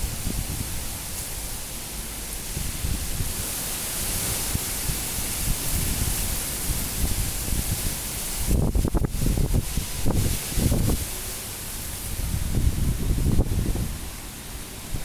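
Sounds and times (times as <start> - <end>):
wind buffeting microphone: 0.0 - 1.2, 2.4 - 15.0
high wind rushing hiss: 0.0 - 15.0.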